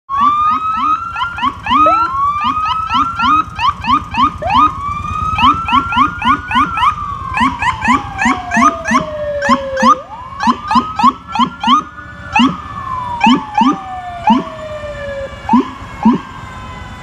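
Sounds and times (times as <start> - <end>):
wailing siren: 0.1 - 17.0
yelping siren: 0.1 - 17.0.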